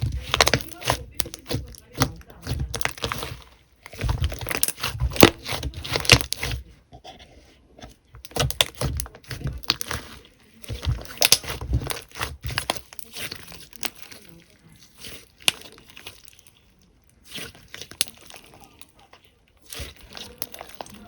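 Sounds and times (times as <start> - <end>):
slime crackling when squeezed: 0.2 - 6.5, 8.2 - 16.6, 17.2 - 21.0.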